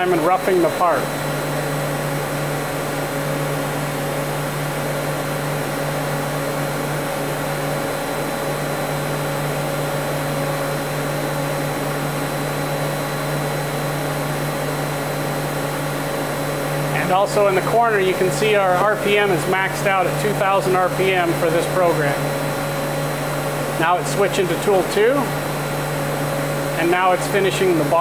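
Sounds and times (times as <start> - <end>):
machinery humming: 0.0 - 28.0.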